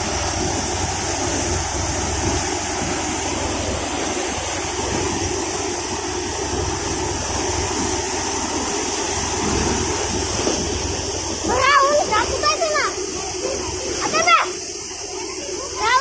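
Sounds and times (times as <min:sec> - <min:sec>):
low tractor engine hum: 0:00.0 - 0:16.0.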